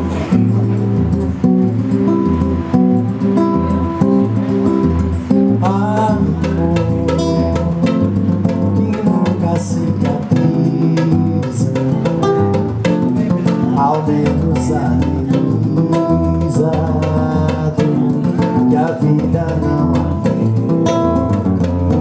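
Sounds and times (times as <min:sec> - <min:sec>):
guitar bass and percussion music: 0:00.0 - 0:22.0.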